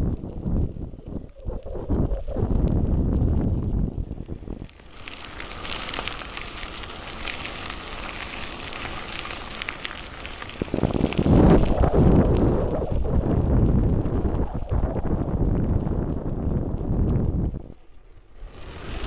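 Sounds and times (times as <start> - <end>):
crackling hiss with ticks: 0.0 - 19.0
wind buffeting microphone: 0.0 - 19.0.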